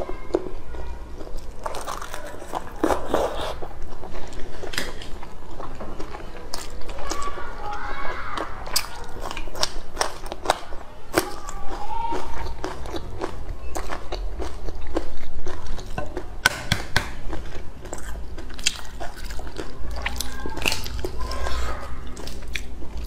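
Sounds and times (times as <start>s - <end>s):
crunching chili pepper: 1.2s - 7.8s, 8.4s - 23.0s.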